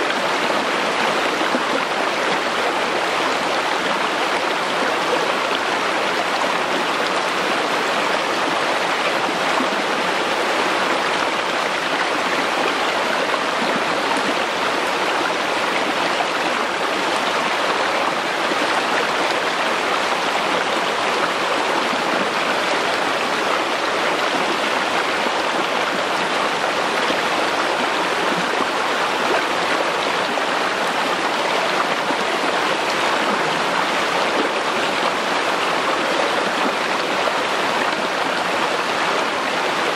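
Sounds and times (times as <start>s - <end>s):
forest stream running: 0.0s - 39.9s.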